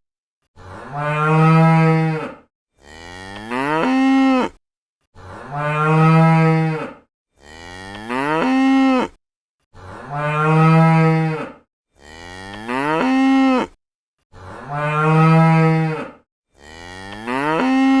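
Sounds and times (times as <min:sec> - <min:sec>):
cow mooing: 0:00.6 - 0:04.6, 0:05.2 - 0:09.2, 0:09.8 - 0:13.8, 0:14.4 - 0:18.0.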